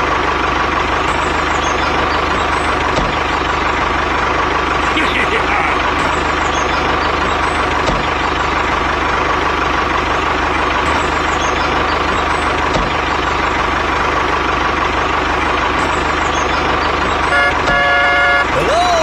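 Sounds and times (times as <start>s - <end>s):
small engine running with whine: 0.0s - 19.0s.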